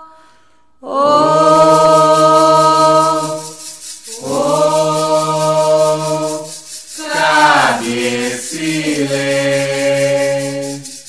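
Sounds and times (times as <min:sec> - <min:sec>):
voices singing long held notes: 0:00.8 - 0:11.0
rattle shaken in fast pulse: 0:01.2 - 0:11.0.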